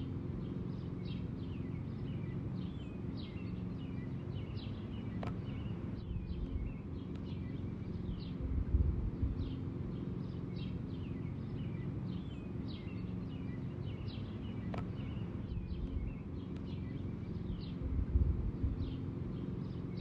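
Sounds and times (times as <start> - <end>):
songbirds chirping: 0.0 - 20.0
steady low hum: 0.0 - 20.0.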